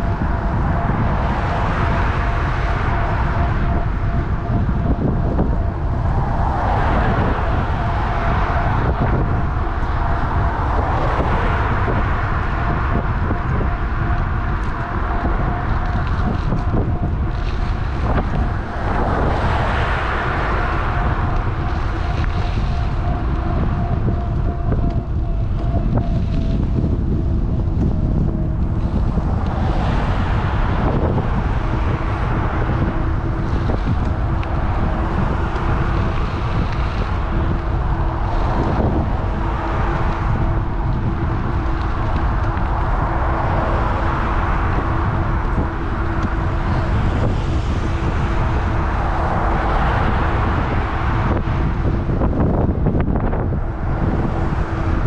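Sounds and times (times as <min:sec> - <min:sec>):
faint steady whine: 0:00.0 - 0:55.0
passing traffic rushing: 0:00.0 - 0:55.0
wind buffeting microphone: 0:00.0 - 0:55.0.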